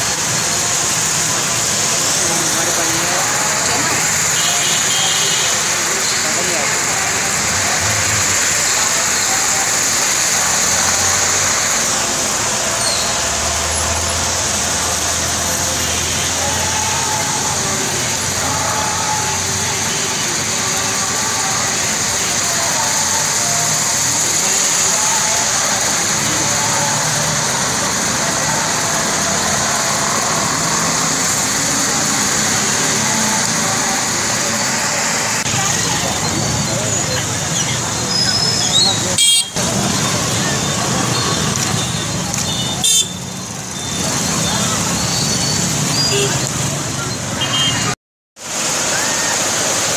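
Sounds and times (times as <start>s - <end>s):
heavy rain hissing: 0.0s - 49.9s
vehicles driving through water: 0.0s - 49.9s.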